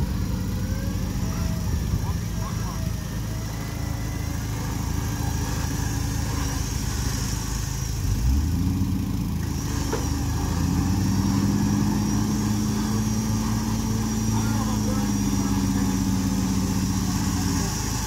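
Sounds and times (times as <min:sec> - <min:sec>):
truck engine at low revs: 0:00.0 - 0:18.0.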